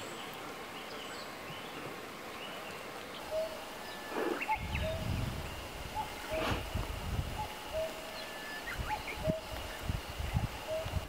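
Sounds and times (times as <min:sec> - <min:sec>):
steady hiss: 0:00.0 - 0:11.0
wild birds calling: 0:00.0 - 0:11.0.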